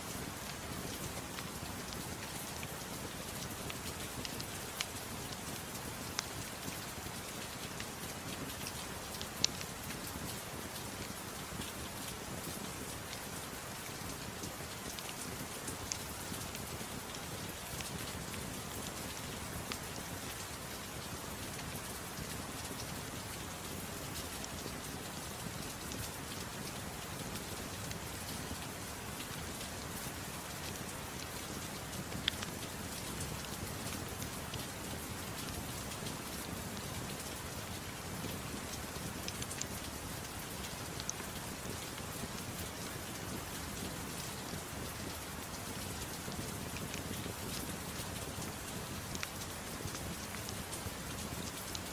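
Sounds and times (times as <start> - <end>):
gentle rain falling: 0.0 - 51.9.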